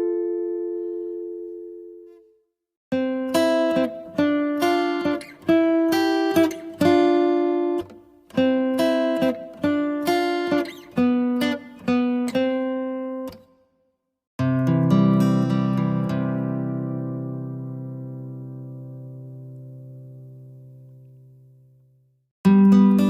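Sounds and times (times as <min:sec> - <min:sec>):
guitar arpeggio: 0:00.0 - 0:13.5, 0:14.4 - 0:21.8, 0:22.5 - 0:23.0.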